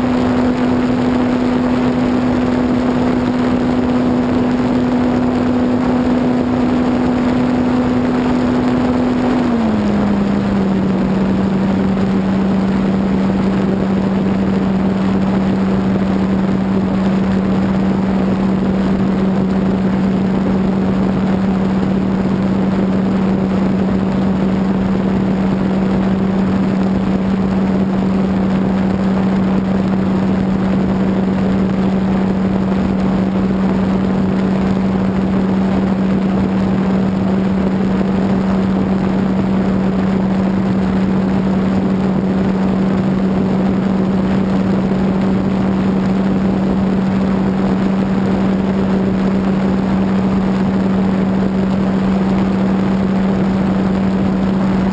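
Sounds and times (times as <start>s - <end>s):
electric motor and propeller hum: 0.0s - 54.9s
rushing air: 0.0s - 54.9s.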